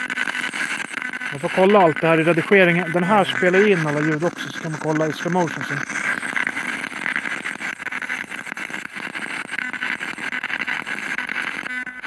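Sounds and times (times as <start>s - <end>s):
radio static hiss: 0.0s - 12.0s
rapid scanner clicks: 0.0s - 12.0s.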